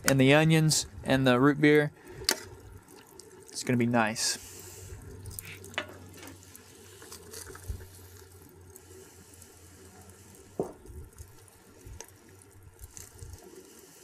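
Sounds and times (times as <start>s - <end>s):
liquid bubbling in a pan: 1.6s - 14.0s.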